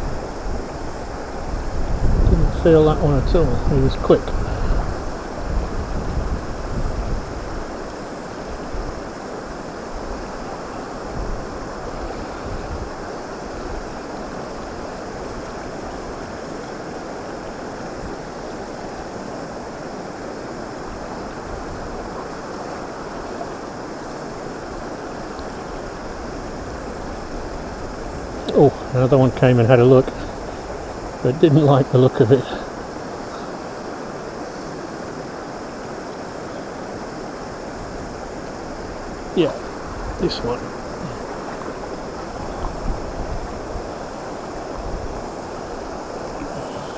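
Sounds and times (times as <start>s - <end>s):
stony stream rushing: 0.0s - 46.9s
wind gusting on microphone: 0.0s - 46.9s.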